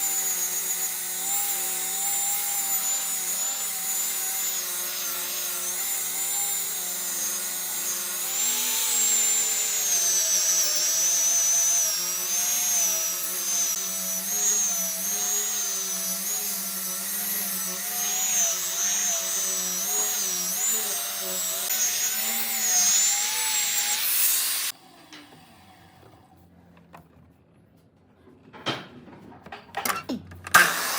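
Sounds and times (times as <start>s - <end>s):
power tool motor whine on wood: 0.0s - 24.9s, 30.5s - 30.9s.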